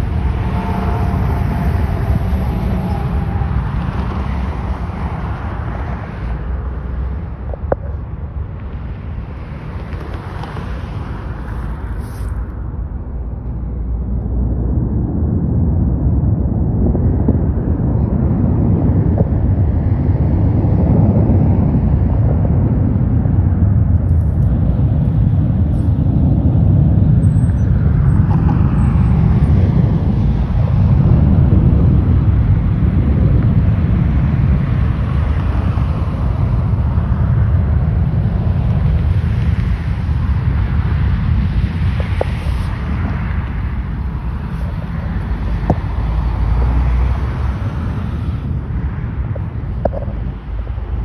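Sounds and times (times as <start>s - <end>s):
jet engines roaring: 0.0s - 51.0s
road noise: 0.0s - 51.0s
wind buffeting: 0.0s - 51.0s.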